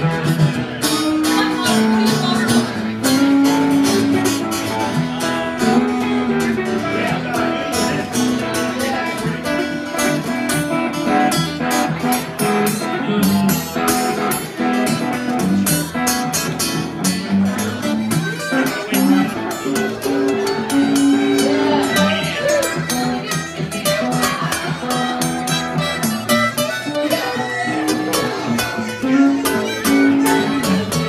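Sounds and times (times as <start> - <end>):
acoustic guitars playing blues: 0.0 - 31.0.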